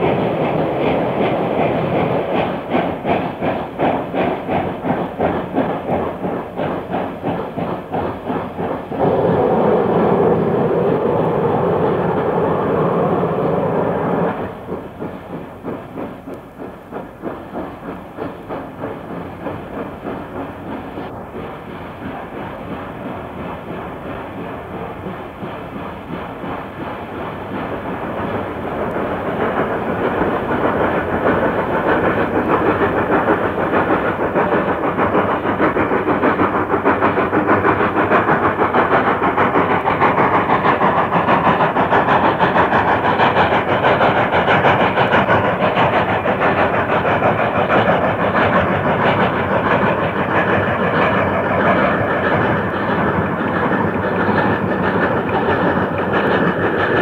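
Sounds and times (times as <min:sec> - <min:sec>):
steam train running on rails: 0:00.0 - 0:57.0.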